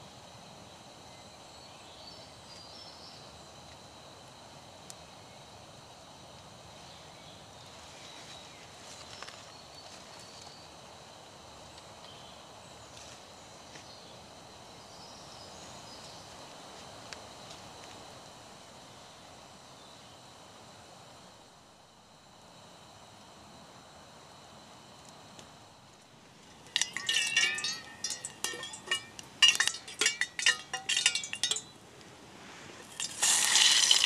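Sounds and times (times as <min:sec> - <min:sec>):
faint steady hiss: 0:00.0 - 0:34.0.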